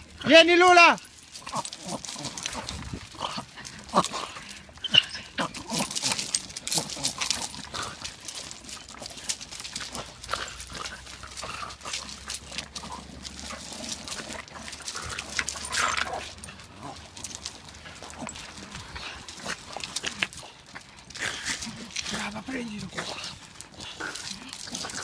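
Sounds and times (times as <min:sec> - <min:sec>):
dog paws scrabbling on gravel: 0:00.0 - 0:25.0
dogs whining: 0:01.3 - 0:25.0.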